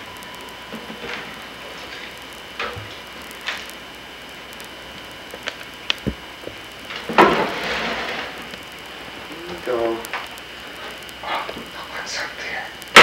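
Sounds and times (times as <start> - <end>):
faint hum: 0.0 - 13.0
tape hiss: 0.0 - 13.0.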